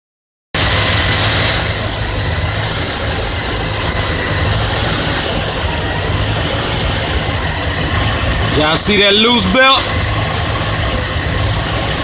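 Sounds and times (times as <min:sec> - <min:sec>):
drive belt squeaking: 0:00.6 - 0:12.0
vehicle engine idling: 0:00.6 - 0:12.0.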